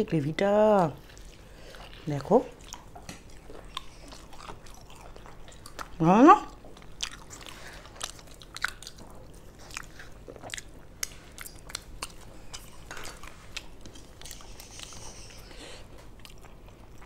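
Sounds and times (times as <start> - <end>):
chewing and biting food: 1.0 - 17.0.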